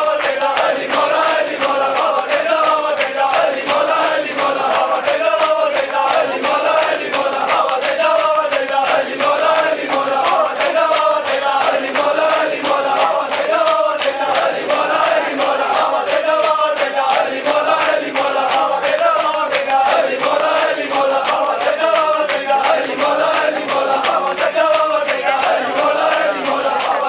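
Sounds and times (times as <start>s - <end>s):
crowd of men chanting: 0.0s - 27.0s
hands slapping chests: 0.0s - 27.0s.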